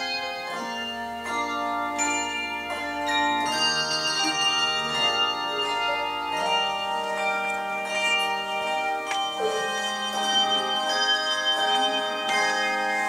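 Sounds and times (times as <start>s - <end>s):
handbell choir ringing chords: 0.0s - 13.0s.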